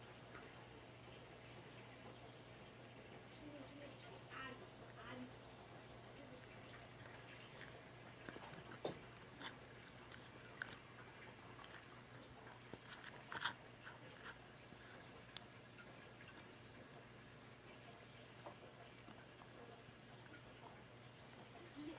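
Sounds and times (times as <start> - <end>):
low steady hum: 0.0 - 21.9.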